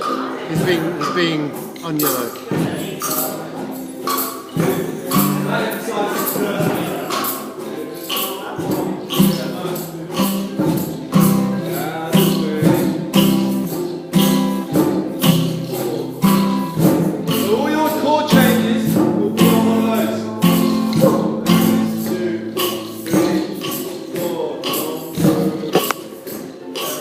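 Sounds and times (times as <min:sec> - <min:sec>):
shaken hand percussion: 0:00.0 - 0:27.0
ukuleles strumming chords: 0:00.0 - 0:27.0.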